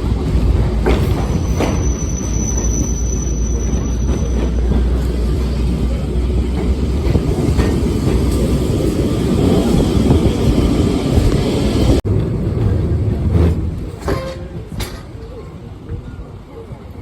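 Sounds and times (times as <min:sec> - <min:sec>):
tram wheels rumbling on track: 0:00.0 - 0:17.0.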